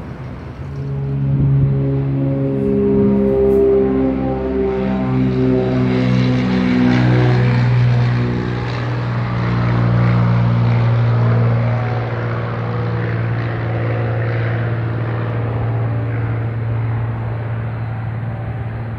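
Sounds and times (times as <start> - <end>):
propeller aircraft engines droning: 0.0 - 18.9.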